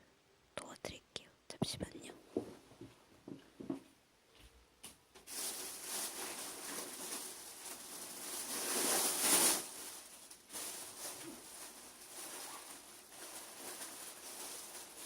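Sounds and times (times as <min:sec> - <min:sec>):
close-up rustling: 0:01.9 - 0:15.0.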